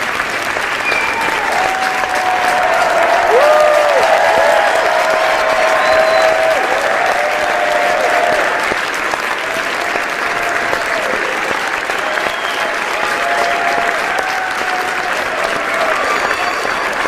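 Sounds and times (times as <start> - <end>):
audience applauding: 0.0 - 17.0
cheers and shouts: 0.6 - 17.0.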